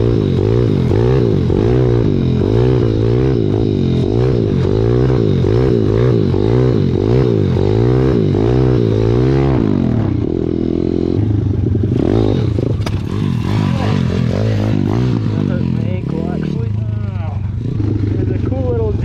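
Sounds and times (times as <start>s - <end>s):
bike rattling and scraping: 0.0s - 9.5s, 11.8s - 19.0s
motorbike engine revving: 0.0s - 19.0s.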